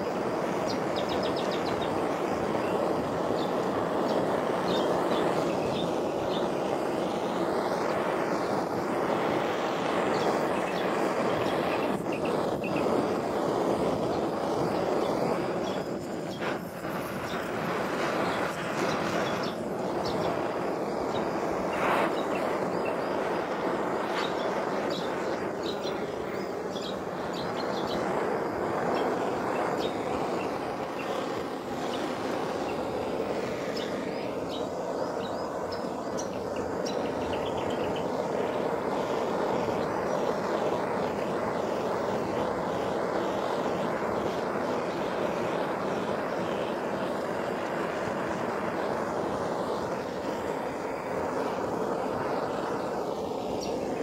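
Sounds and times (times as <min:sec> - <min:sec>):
gas torch roaring: 0:00.0 - 0:54.0.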